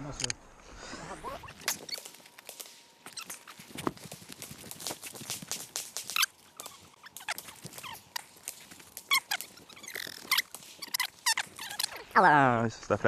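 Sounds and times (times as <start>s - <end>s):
footsteps on gravel: 1.7s - 12.2s.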